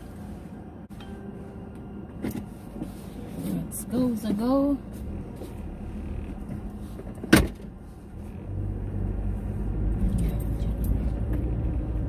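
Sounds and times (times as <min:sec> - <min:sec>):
car rumbling at low speed: 0:00.0 - 0:12.0.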